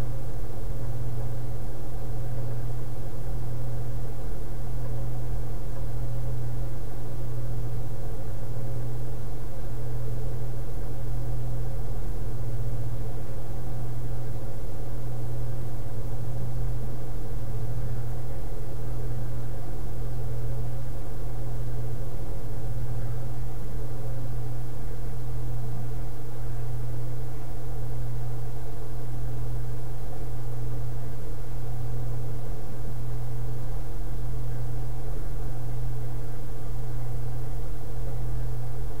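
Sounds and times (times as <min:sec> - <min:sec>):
low buzzing hum: 0:00.0 - 0:39.0.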